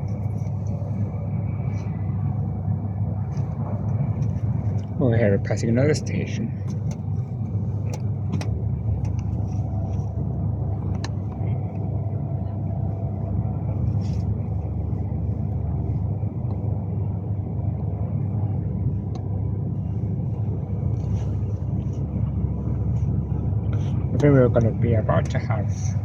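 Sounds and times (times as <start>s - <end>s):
electric train rumble from inside: 0.0s - 26.0s
faint steady tones: 0.0s - 26.0s.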